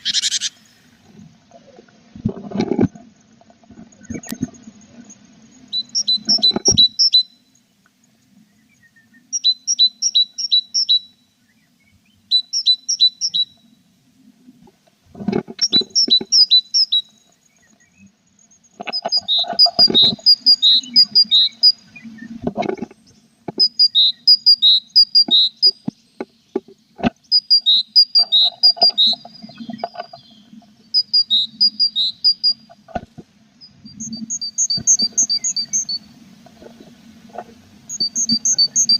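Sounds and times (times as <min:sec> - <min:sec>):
birds chirping: 0:03.9 - 0:13.8, 0:15.5 - 0:33.0, 0:33.6 - 0:38.9.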